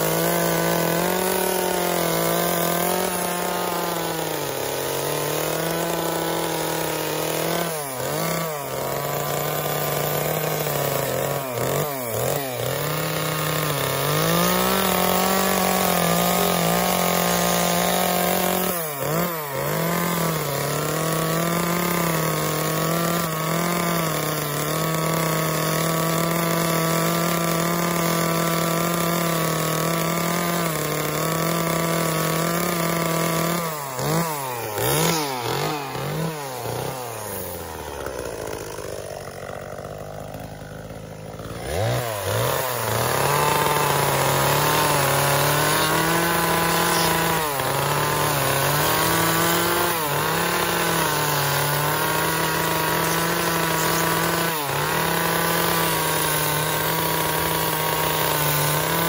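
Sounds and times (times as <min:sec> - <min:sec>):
chainsaw carving wood: 0:00.0 - 0:59.0.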